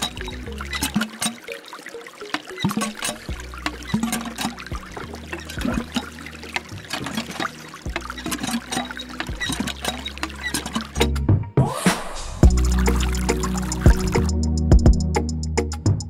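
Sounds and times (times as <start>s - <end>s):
water trickling into pond: 0.0s - 11.2s, 12.4s - 14.4s.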